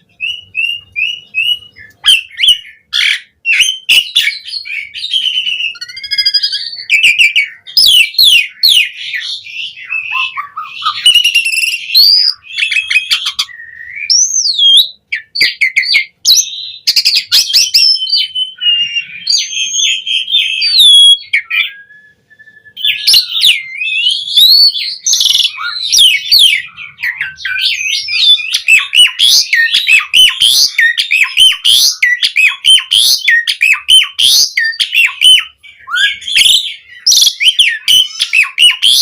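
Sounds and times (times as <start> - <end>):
starling singing: 0.0 - 39.0.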